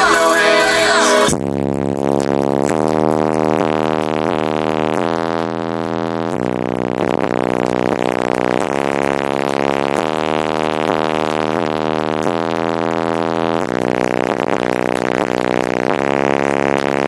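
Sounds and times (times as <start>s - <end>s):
deep bass from subwoofers: 0.0s - 17.0s.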